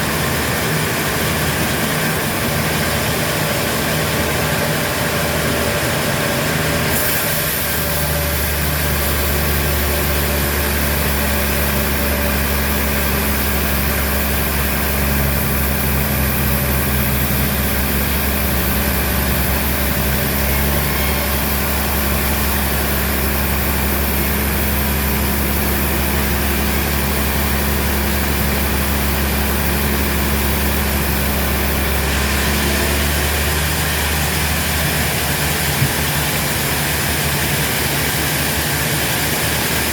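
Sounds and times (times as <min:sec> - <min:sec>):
heavy machinery humming: 0:00.0 - 0:39.9.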